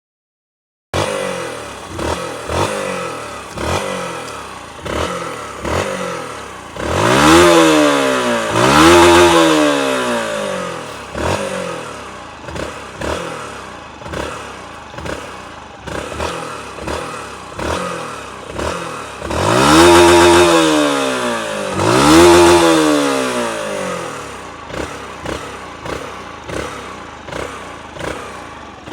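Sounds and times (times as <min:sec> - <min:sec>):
motorcycle engine revving: 0:01.0 - 0:28.9.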